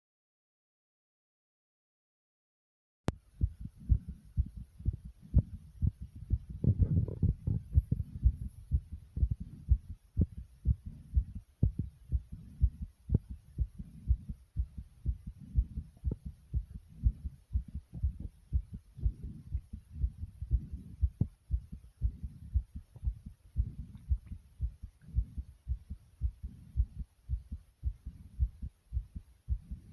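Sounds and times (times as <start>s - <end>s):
fast heartbeat thumps: 3.1s - 29.9s.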